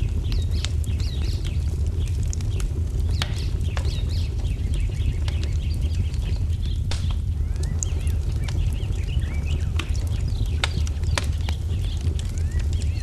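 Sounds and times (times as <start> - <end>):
low rumble: 0.0 - 13.0
small birds chirping: 0.0 - 13.0
wood fire crackling and popping: 0.0 - 13.0.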